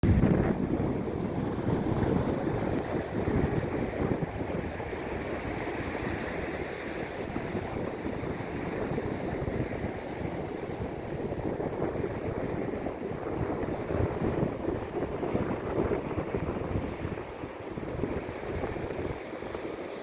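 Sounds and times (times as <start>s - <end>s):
wind on microphone: 0.0s - 19.9s.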